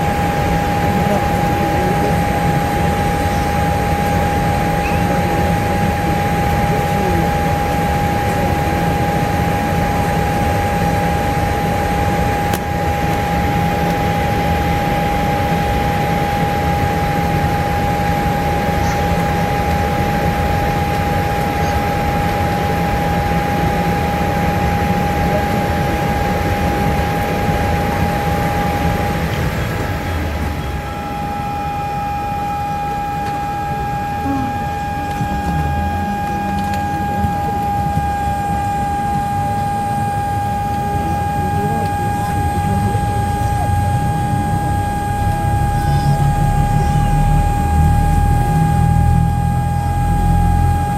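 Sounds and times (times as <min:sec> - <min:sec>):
constant high whine: 0:00.0 - 0:50.9.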